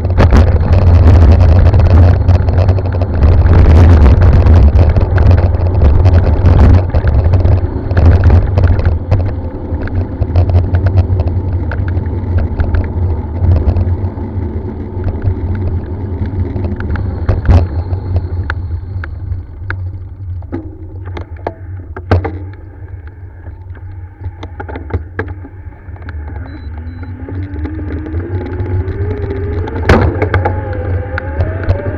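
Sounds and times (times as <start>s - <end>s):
bike knocking and rattling: 0.0s - 31.9s
wind rumbling on microphone: 0.0s - 31.9s.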